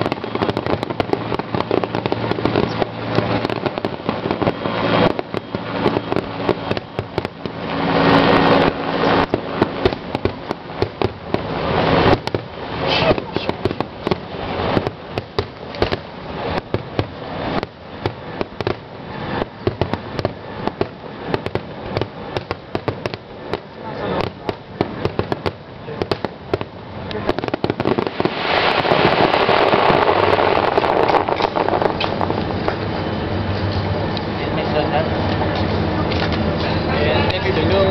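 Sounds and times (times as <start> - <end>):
fireworks popping and crackling: 0.0 - 37.9.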